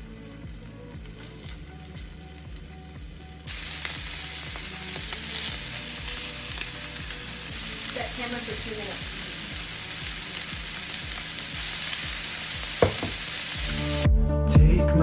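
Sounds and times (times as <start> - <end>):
food sizzling in a frying pan: 0.0 - 14.1.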